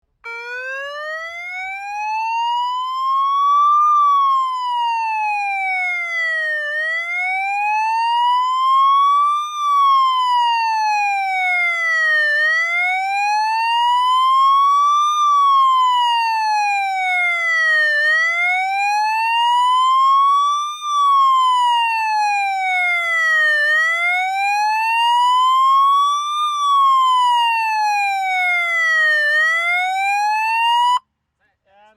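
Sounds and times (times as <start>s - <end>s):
motorcycle siren wailing: 0.2s - 31.0s.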